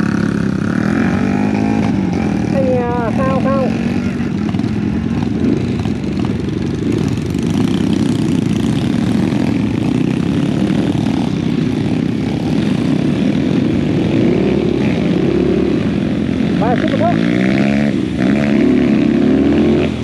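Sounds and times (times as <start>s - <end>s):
small motorcycle engine running: 0.0s - 20.0s.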